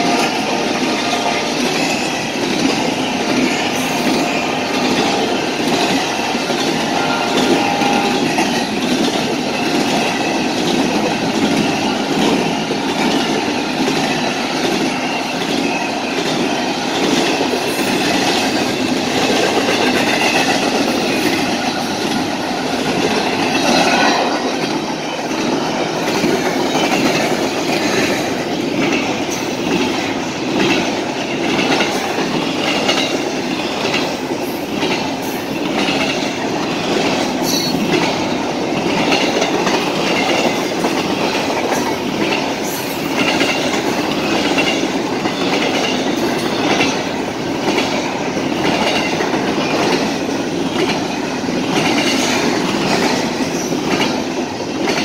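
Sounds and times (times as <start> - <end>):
freight train wheels clattering: 0.0 - 55.0.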